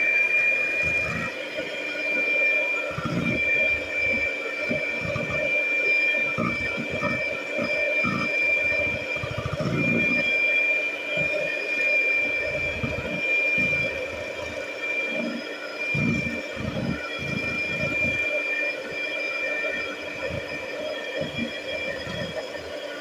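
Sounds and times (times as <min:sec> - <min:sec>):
electric mixer whining: 0:00.0 - 0:23.0.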